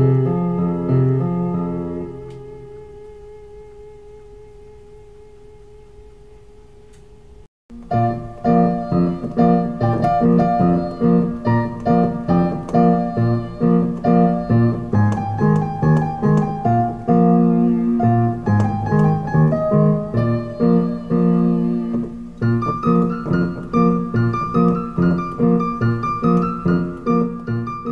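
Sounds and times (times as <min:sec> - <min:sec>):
piano music: 0:00.0 - 0:05.3, 0:07.7 - 0:27.9.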